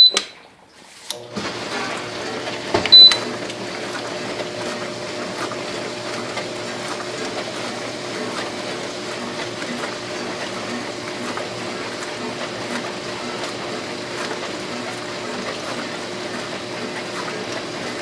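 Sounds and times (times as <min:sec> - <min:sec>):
dishwasher running: 0:00.0 - 0:18.0.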